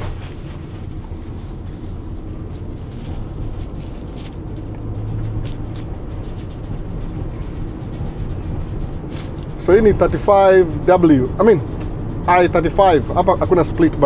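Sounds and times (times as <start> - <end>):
car engine and tyre rumble: 0.0 - 14.0
faint hum: 0.0 - 14.0.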